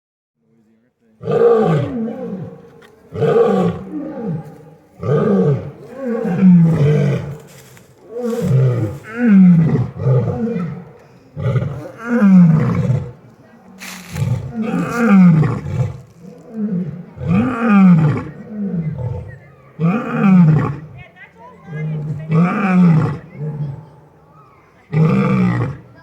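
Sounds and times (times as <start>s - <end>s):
lions roaring: 1.2s - 13.2s, 14.1s - 21.0s, 21.7s - 23.9s.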